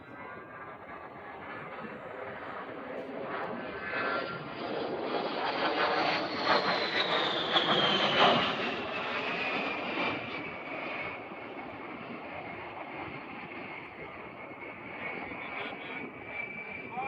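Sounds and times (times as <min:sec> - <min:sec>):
jet engine passing: 0:00.0 - 0:17.0.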